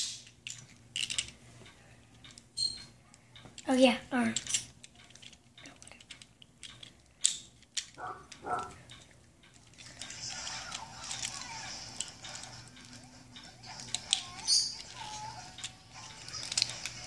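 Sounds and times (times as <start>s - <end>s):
plastic toy parts clicking: 0.0s - 17.0s.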